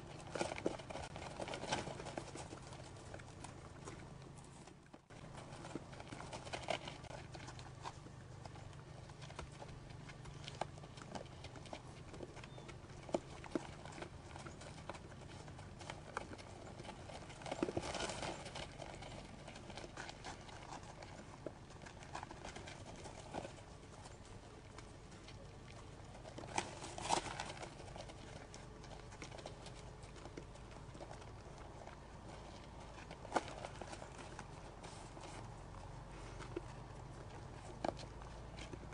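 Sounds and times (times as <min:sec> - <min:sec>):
deer hooves on packed snow: 0:00.0 - 0:38.9.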